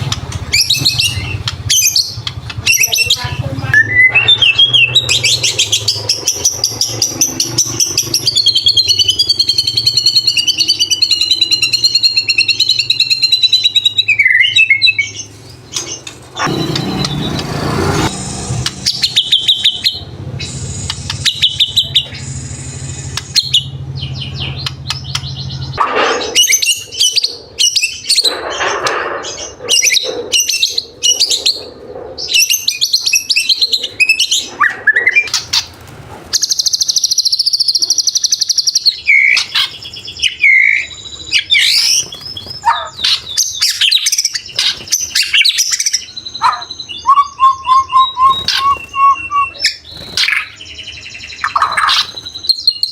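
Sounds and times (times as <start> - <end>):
songbird singing: 0.0 - 28.5, 36.4 - 52.9.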